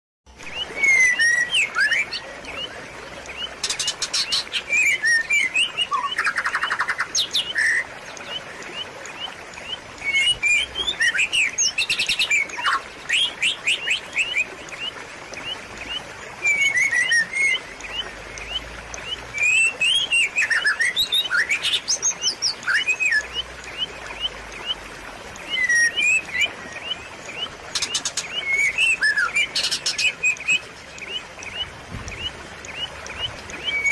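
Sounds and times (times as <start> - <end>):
small songbirds chirping: 0.3 - 33.9
trickling water: 0.3 - 33.9.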